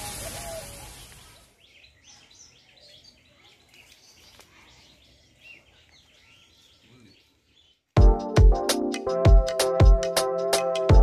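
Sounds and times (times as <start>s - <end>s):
birds chirping: 0.0s - 8.9s.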